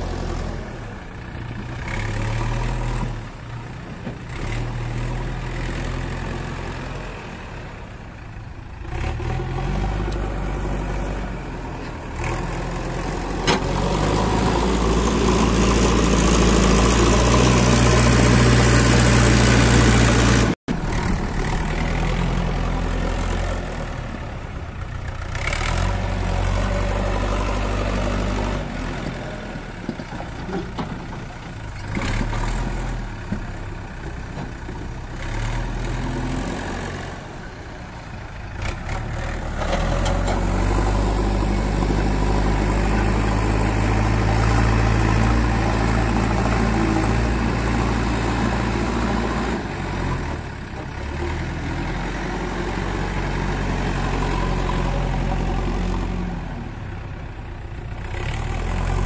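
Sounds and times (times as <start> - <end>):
diesel engine revving under load: 0.0 - 59.0.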